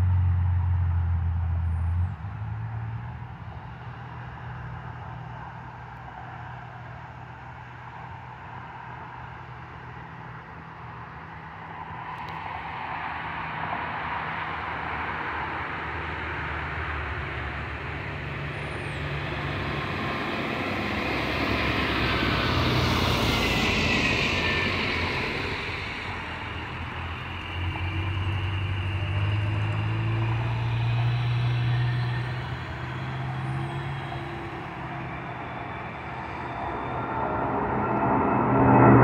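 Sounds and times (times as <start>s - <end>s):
jet engine roar: 2.1s - 39.0s.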